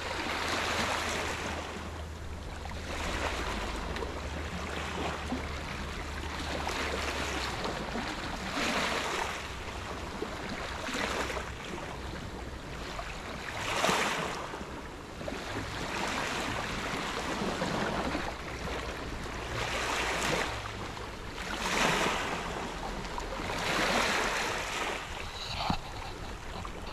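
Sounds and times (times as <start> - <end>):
small waves breaking on shore: 0.0 - 26.9.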